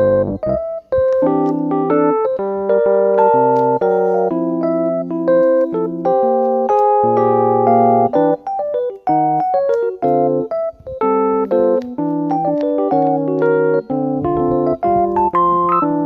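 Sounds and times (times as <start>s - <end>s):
keyboard tune: 0.0s - 16.0s.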